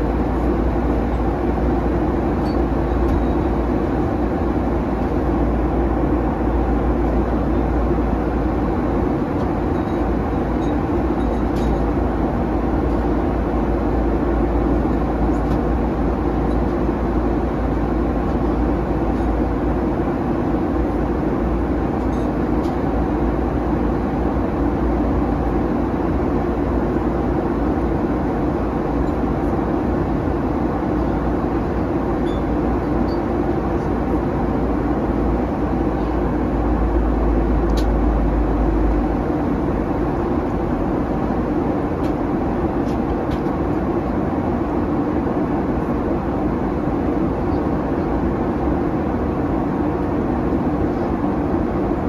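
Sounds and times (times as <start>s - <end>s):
jet engine drone: 0.0s - 52.0s.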